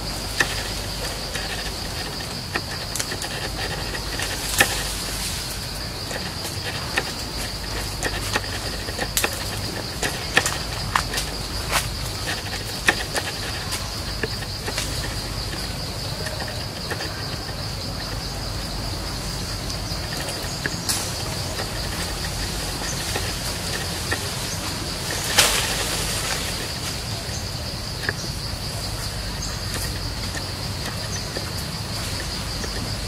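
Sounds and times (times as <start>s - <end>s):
high-pitched insect drone: 0.0s - 33.0s
rustle: 0.0s - 33.0s.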